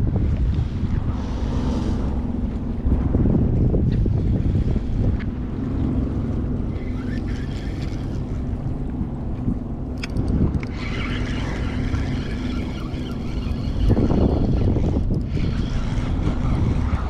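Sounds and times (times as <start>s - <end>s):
low engine drone: 0.0s - 17.0s
wind buffeting microphone: 0.0s - 17.0s.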